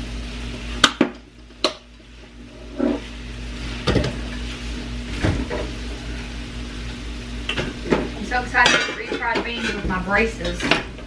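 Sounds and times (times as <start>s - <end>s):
peppers sizzling in a frying pan: 0.0s - 11.0s.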